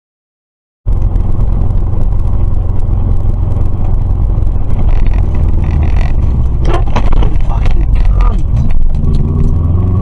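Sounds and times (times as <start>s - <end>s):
car engine rumble: 0.9s - 10.0s
tyres on road: 0.9s - 10.0s.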